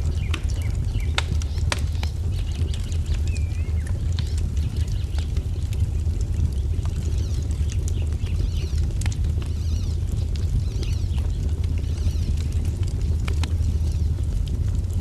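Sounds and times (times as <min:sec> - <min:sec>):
small birds chirping: 0:00.0 - 0:14.3
wood fire crackling: 0:00.0 - 0:15.0.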